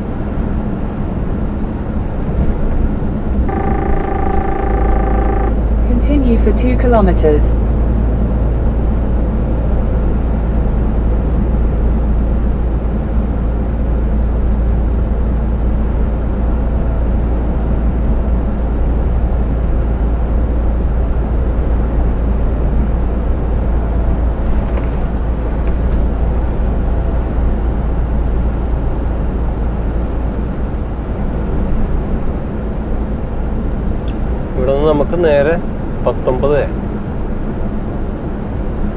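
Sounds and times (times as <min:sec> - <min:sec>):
truck cab engine and road drone: 0:00.0 - 0:38.9.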